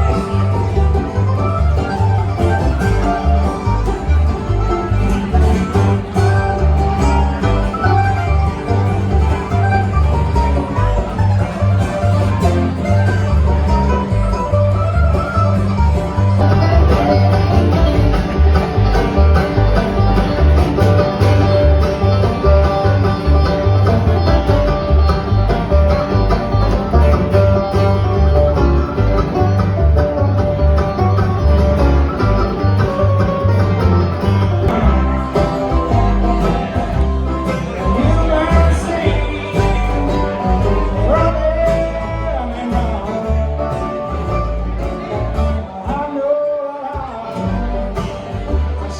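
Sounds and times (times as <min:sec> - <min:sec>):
banjo: 0:00.0 - 0:48.9
bluegrass band playing: 0:00.0 - 0:48.9
guitar: 0:00.0 - 0:48.9.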